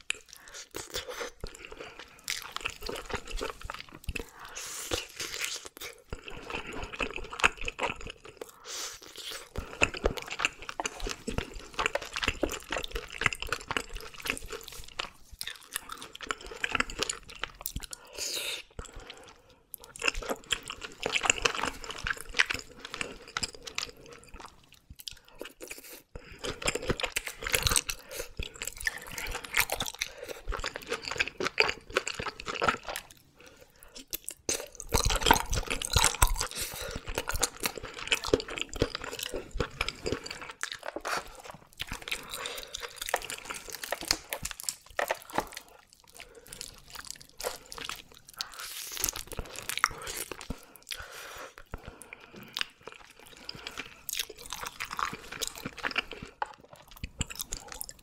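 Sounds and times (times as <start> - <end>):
chewing with wet clicks: 0.0 - 58.0.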